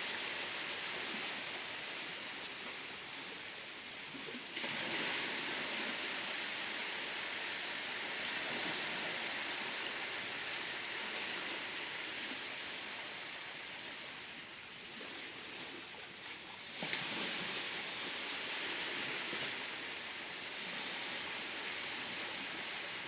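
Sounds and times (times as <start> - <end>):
ocean waves rushing: 0.0 - 23.0.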